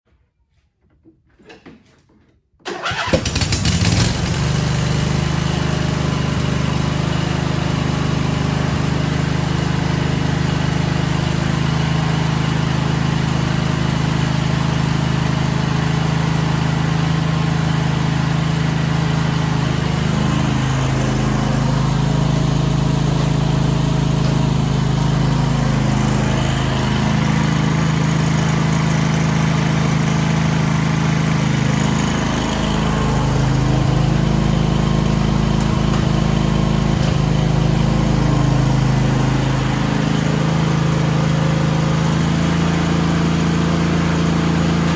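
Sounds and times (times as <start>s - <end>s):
lawn tractor engine starting and running: 1.0s - 44.9s.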